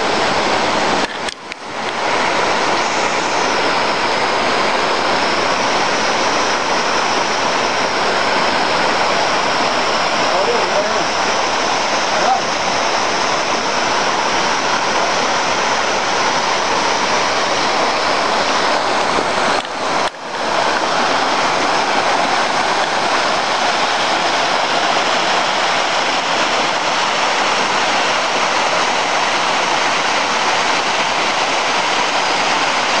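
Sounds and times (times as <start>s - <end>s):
mountain stream rushing over boulders: 0.0s - 33.0s.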